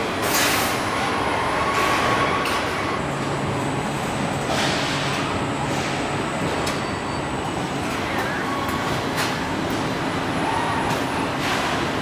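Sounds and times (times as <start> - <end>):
factory machinery din: 0.0 - 12.0.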